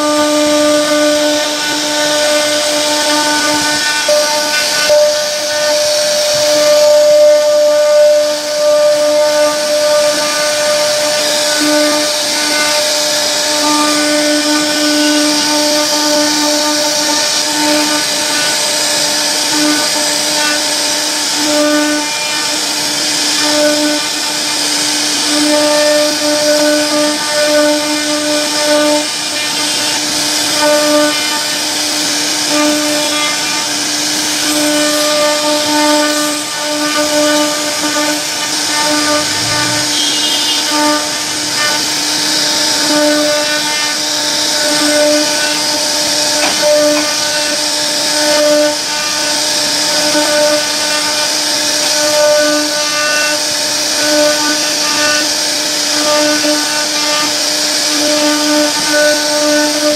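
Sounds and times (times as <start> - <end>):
bit cutting wood hiss: 0.0 - 59.9
router spindle whining: 0.0 - 59.9.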